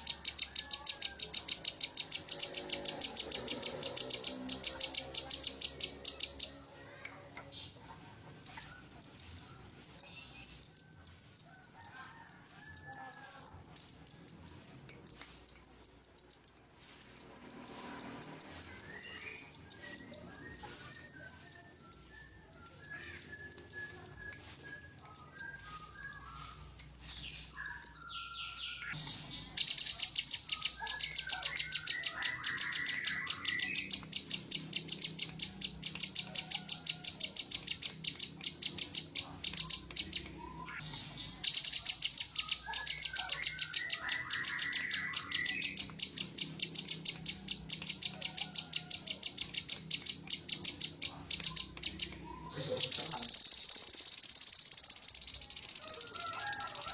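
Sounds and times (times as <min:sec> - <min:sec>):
soft bird chirps: 0:07.4 - 0:56.9
thin high bird trill: 0:07.9 - 0:56.9.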